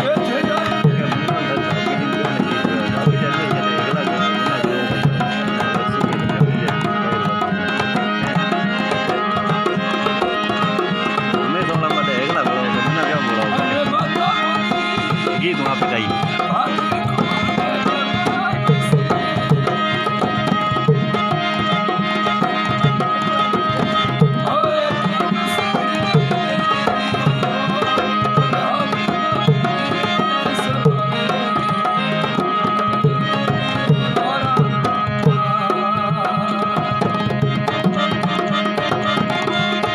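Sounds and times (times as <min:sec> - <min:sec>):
drone-like melodic tones: 0:00.0 - 0:35.2
hand drum playing rhythm: 0:00.0 - 0:39.9.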